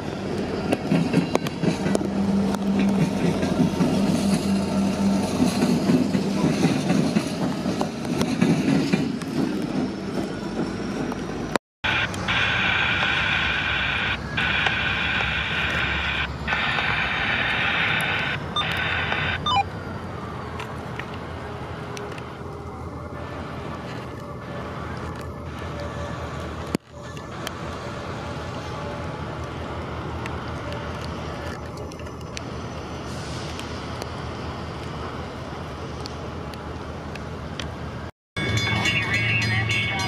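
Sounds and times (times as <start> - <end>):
diesel locomotive rumble: 0.0 - 40.0
train running noise: 0.0 - 40.0.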